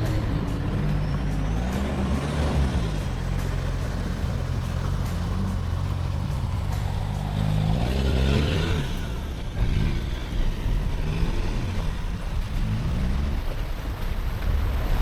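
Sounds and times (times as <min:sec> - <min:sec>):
vehicle engine at low revs: 0:00.0 - 0:15.0.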